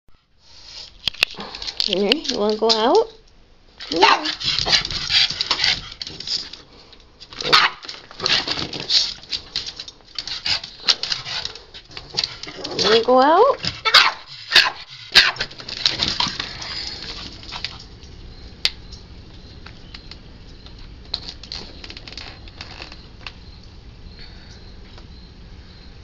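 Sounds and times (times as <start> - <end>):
low outdoor background: 0.1 - 26.0.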